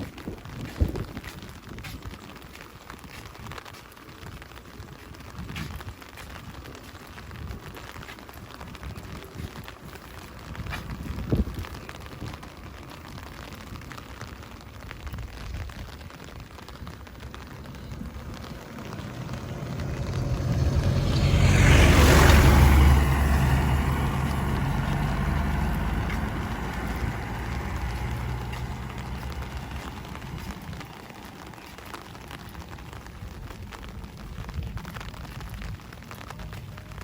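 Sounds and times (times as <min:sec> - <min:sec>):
steady rain: 0:00.0 - 0:37.0
vehicle passing on wet road: 0:00.0 - 0:37.0.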